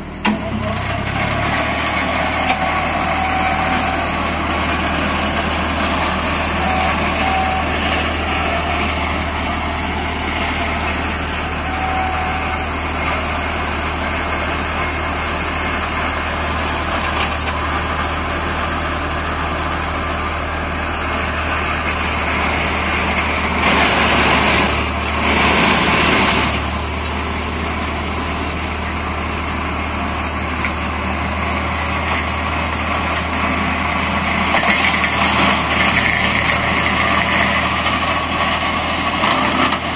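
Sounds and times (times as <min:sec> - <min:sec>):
diesel tractor engine under load: 0:00.0 - 0:39.9
flail mulcher shredding brush: 0:00.0 - 0:39.9.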